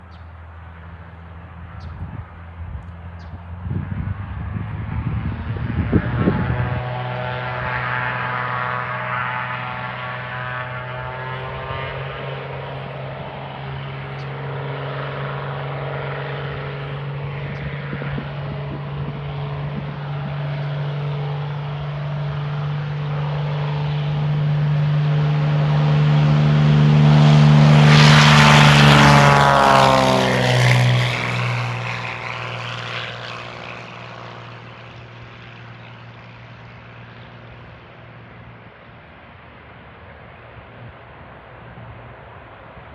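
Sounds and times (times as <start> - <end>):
propeller plane engine drone: 0.0 - 42.9.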